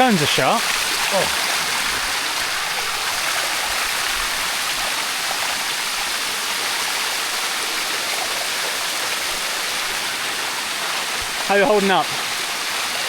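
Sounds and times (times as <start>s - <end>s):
waterfall rushing water: 0.0s - 13.0s.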